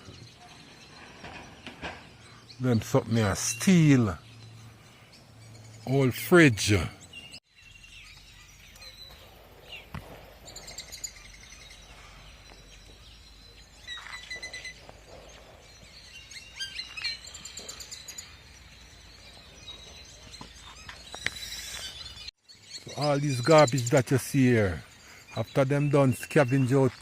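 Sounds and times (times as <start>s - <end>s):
birds chirping and trilling: 0.0s - 27.0s.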